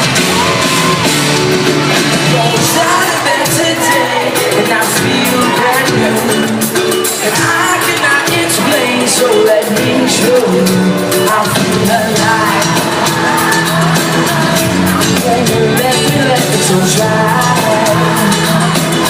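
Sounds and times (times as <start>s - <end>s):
crowd shouting and whooping: 0.0s - 19.0s
live pop-rock band with singing: 0.0s - 19.0s.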